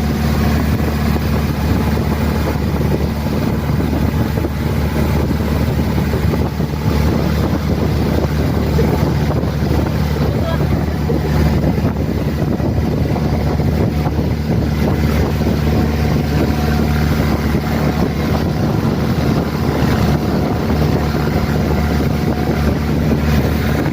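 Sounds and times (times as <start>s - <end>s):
boat engine drone: 0.0s - 23.9s
water rushing alongside boat: 0.0s - 23.9s
wind buffeting microphone: 0.0s - 23.9s.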